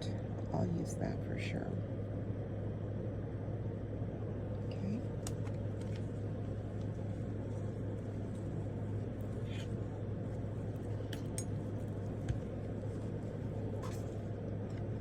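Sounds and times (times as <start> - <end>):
low background hum and rumble: 0.0 - 15.0.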